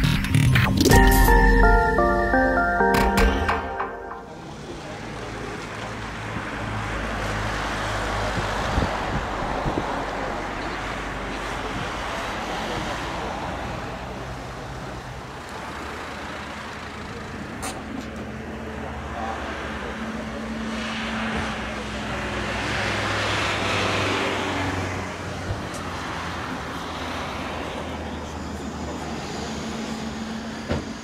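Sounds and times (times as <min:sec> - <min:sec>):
road traffic roar: 0:00.0 - 0:31.0.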